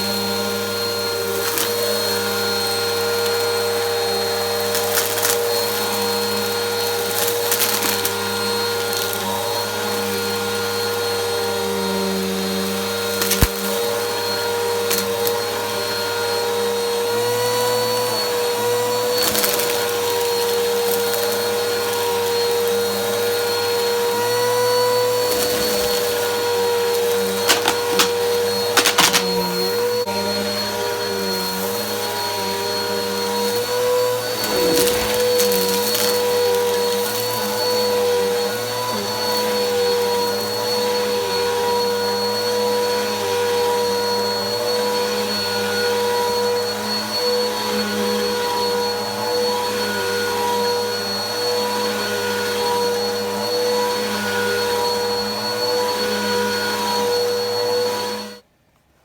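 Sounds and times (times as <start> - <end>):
vacuum cleaner running: 0.0 - 58.5.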